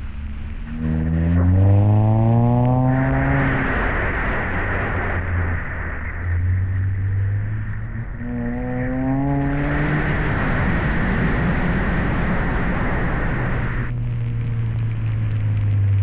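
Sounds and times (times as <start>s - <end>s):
car engine accelerating: 0.0s - 16.0s
road and wind noise: 0.0s - 16.0s.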